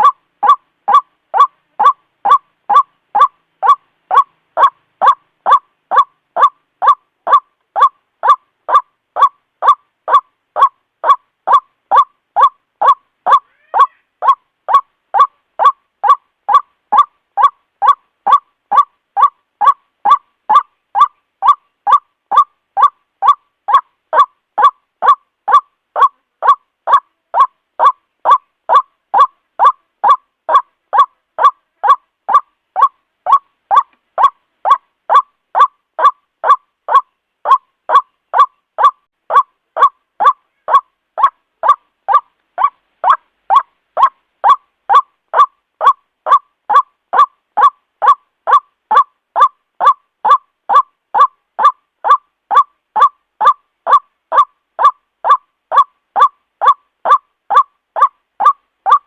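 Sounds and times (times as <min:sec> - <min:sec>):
bird calling ruak: 0:00.0 - 0:59.0.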